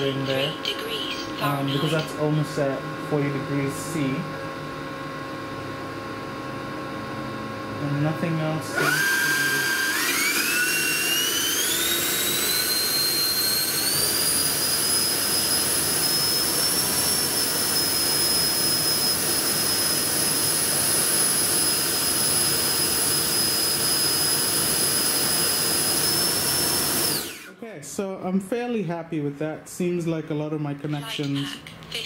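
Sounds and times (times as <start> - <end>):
electric ducted fan whine: 0.0 - 32.0.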